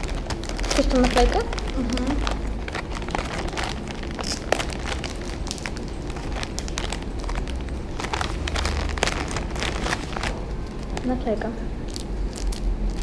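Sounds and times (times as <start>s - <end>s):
plastic packet crinkling: 0.0s - 13.0s.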